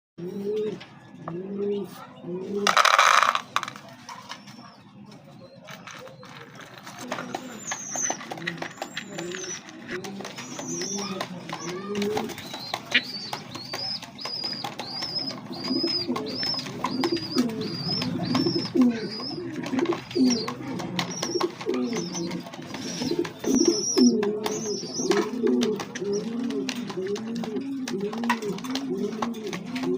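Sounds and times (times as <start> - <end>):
pigeons cooing: 0.2 - 29.9.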